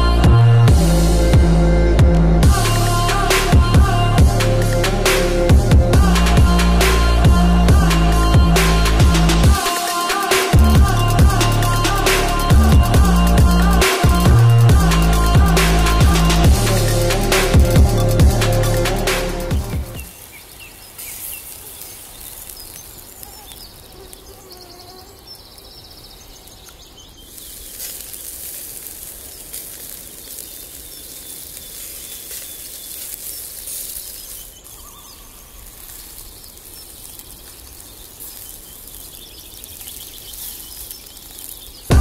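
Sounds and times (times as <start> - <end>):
steady outdoor hiss: 0.0 - 42.0
bird chirps and trills: 6.2 - 42.0.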